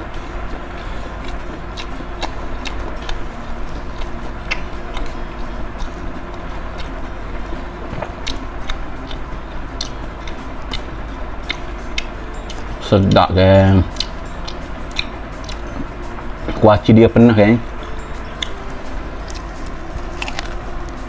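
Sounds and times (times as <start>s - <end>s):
chewing crunchy fried food: 0.5s - 3.2s, 3.8s - 12.7s, 13.9s - 16.6s, 18.3s - 21.0s.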